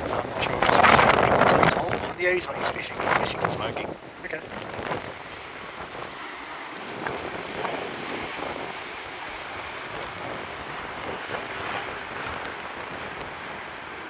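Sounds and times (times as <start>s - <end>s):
surf washing on beach: 0.0s - 14.0s
wind: 0.0s - 14.0s.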